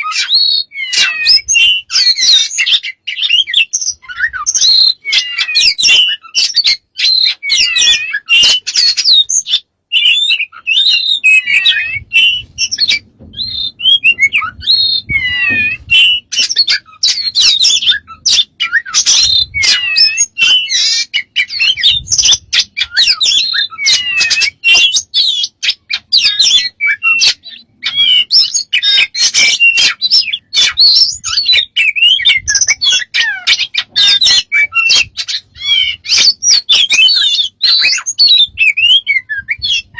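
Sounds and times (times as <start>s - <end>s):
bird chirping and whistling: 0.0s - 39.9s.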